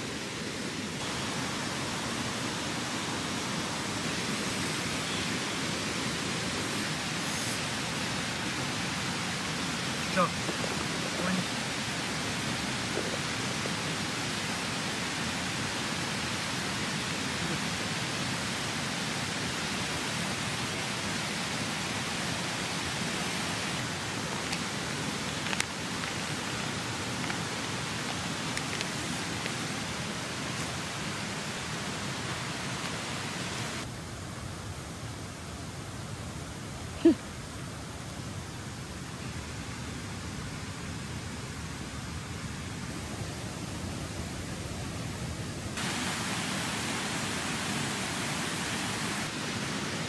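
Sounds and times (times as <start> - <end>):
stream rushing over rocks: 0.0 - 33.9, 39.2 - 50.0.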